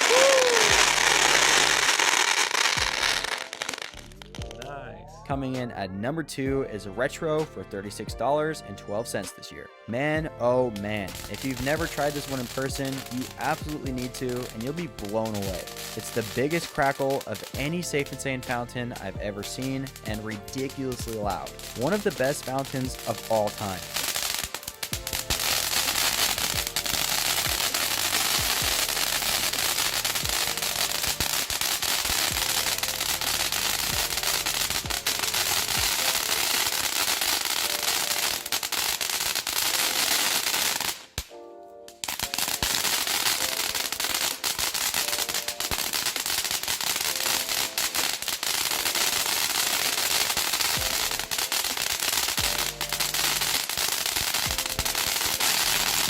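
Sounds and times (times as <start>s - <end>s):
firework fountain crackling: 0.0s - 4.7s, 10.7s - 56.0s.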